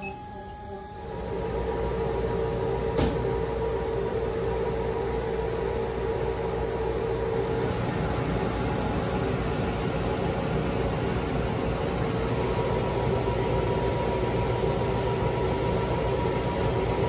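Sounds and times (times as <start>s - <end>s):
laser cutter machine hum: 0.0s - 17.0s.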